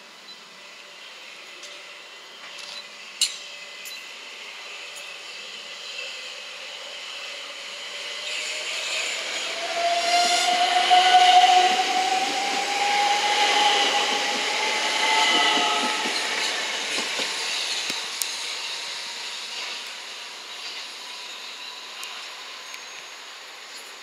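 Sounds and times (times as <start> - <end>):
electric train whine: 0.0 - 24.0
wheel and rail noise: 0.2 - 24.0.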